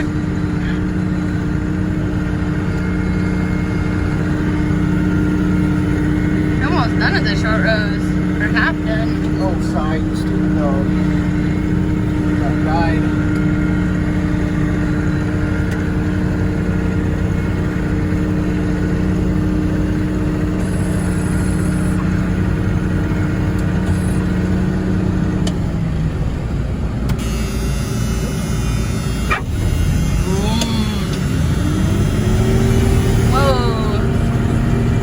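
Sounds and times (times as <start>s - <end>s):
engine knock: 0.0s - 35.0s
vehicle engine running: 0.0s - 35.0s.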